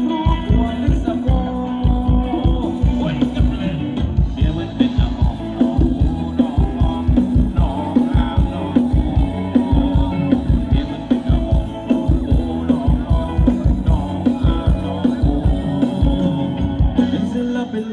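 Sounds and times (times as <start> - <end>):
fast drum beat: 0.0 - 17.9
live band playing dance music: 0.0 - 17.9.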